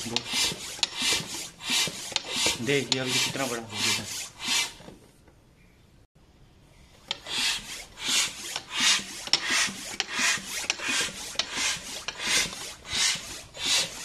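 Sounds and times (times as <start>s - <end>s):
bicycle pump strokes: 0.0s - 5.0s, 7.0s - 14.0s.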